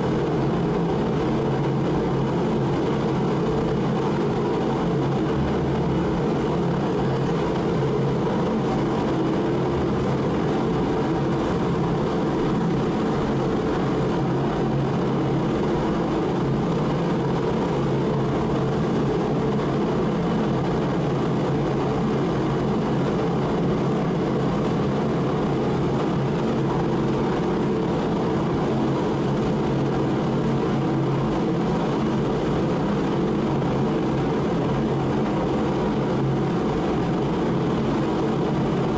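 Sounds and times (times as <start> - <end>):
heater fan and burner rushing: 0.0 - 38.9.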